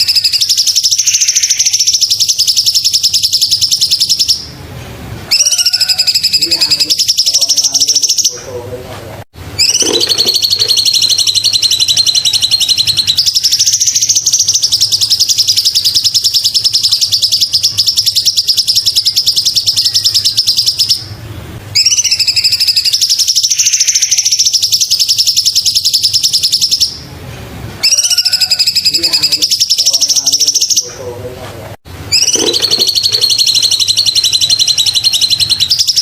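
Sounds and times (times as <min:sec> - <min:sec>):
bird singing high trill: 0:00.0 - 0:04.6, 0:05.3 - 0:08.5, 0:09.6 - 0:27.1, 0:27.8 - 0:31.0, 0:32.1 - 0:36.0.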